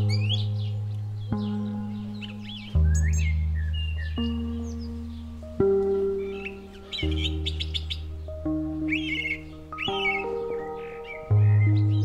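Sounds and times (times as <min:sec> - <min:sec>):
slow background music: 0:00.0 - 0:12.0
small birds chirping: 0:00.0 - 0:12.0.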